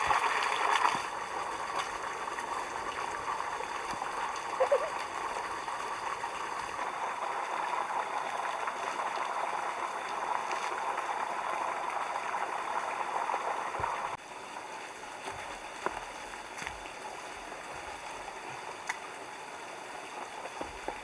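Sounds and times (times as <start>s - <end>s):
stream water running: 0.0s - 21.0s.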